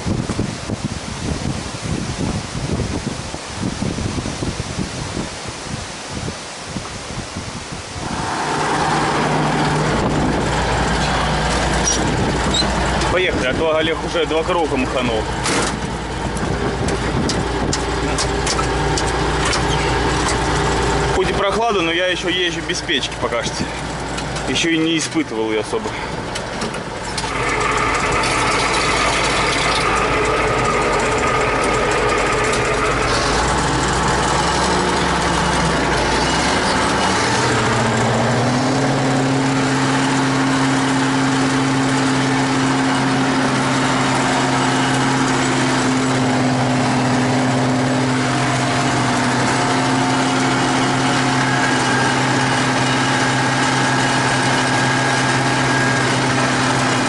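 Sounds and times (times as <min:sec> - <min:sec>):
tractor diesel engine under load: 0:00.0 - 0:05.8, 0:07.6 - 0:57.0.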